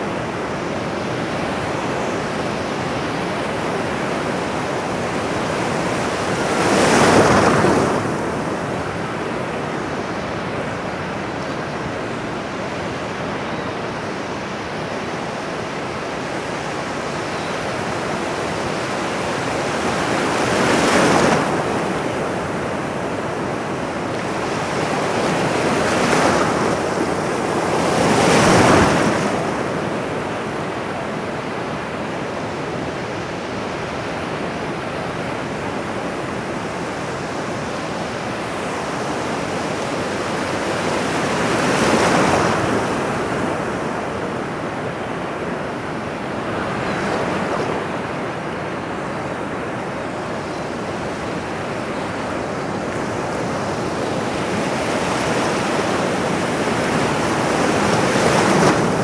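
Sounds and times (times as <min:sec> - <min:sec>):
sea surf washing on shore: 0:00.0 - 0:12.6, 0:13.2 - 0:59.0.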